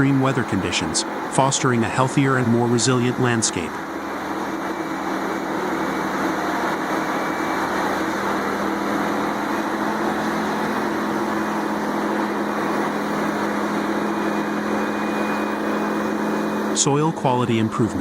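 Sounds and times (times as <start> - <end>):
wood chipper running: 0.0 - 18.0.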